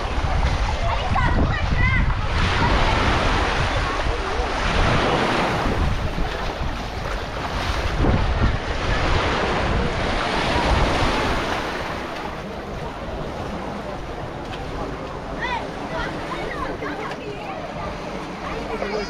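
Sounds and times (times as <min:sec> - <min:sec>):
wind rumbling on microphone: 0:00.0 - 0:18.7
waves washing on beach: 0:00.0 - 0:19.0.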